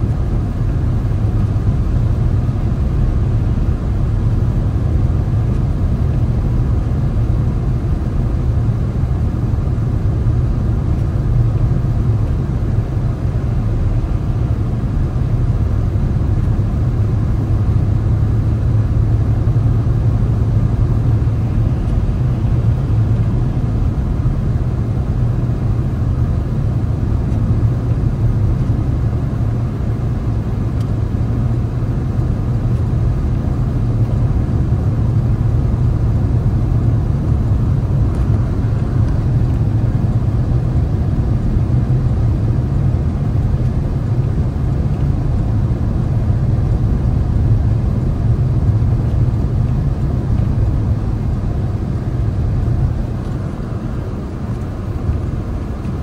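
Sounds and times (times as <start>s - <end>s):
car driving steadily: 0.0s - 56.0s.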